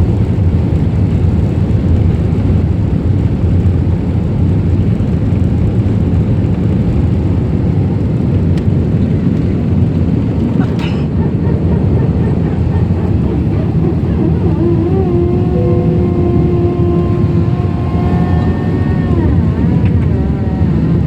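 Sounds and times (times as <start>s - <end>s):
aircraft cabin engine roar: 0.0s - 21.0s
gliding engine whine: 0.0s - 21.0s.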